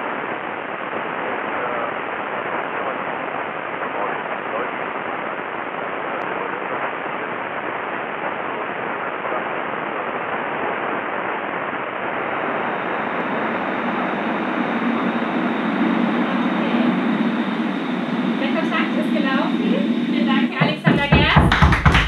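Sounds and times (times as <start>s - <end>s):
radio static: 0.0s - 22.0s.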